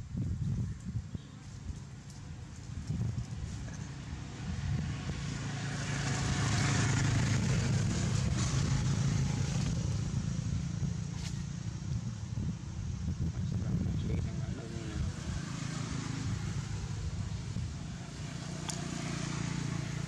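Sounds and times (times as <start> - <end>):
passing engine hum: 0.0 - 20.0.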